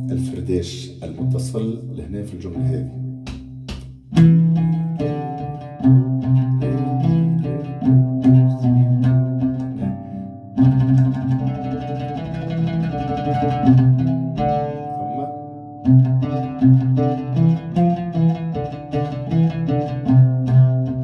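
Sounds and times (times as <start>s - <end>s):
oud tremolo melody: 4.1s - 21.0s.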